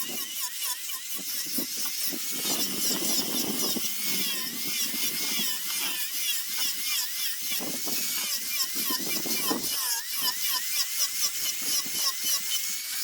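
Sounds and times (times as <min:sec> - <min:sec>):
rotary tool whining: 0:00.0 - 0:13.0
scratchy grinding on wood: 0:00.0 - 0:13.0.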